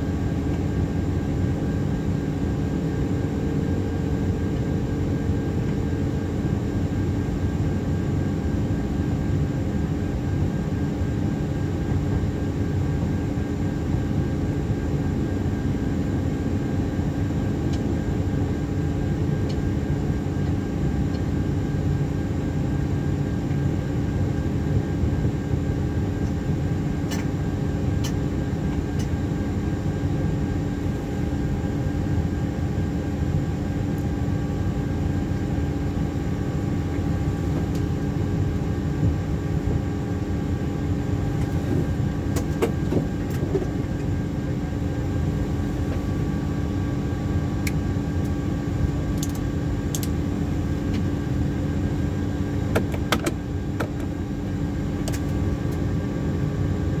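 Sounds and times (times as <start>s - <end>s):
aircraft cockpit hum: 0.0s - 57.0s.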